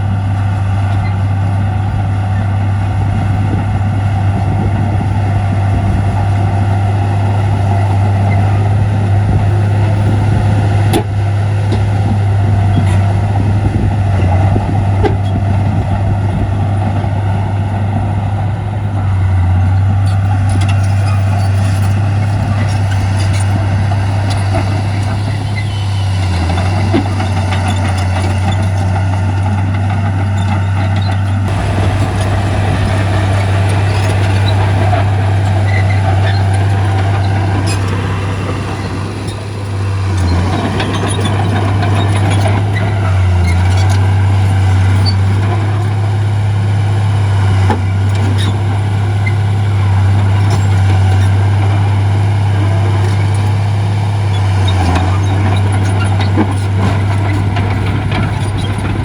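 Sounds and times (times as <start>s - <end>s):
heavy diesel machinery engine drone: 0.0s - 59.0s.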